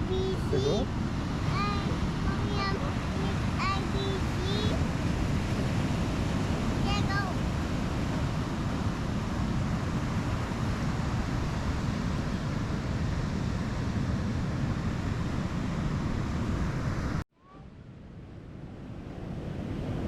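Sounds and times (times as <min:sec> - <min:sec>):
wind buffeting microphone: 0:00.0 - 0:17.2
ocean surf: 0:00.0 - 0:20.0.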